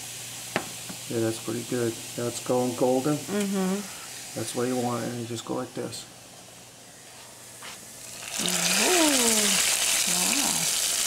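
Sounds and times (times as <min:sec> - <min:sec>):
garlic sizzling in oil: 0:00.0 - 0:06.6, 0:07.4 - 0:11.0.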